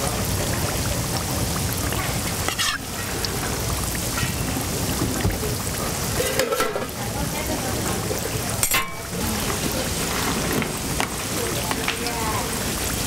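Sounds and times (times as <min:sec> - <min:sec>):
pancake sizzling in oil: 0:00.0 - 0:13.0.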